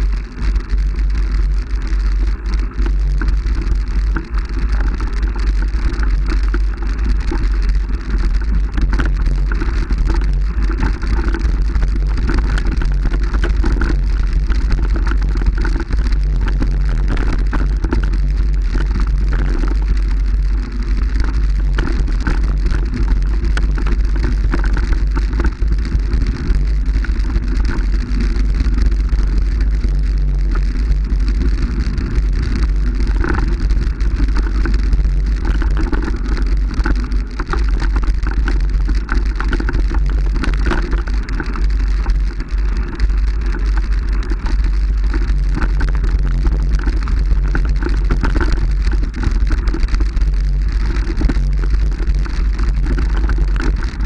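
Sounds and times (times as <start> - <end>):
heavy wind rumble on microphone: 0.0 - 54.0
rattling and crackling clatter: 0.0 - 54.0.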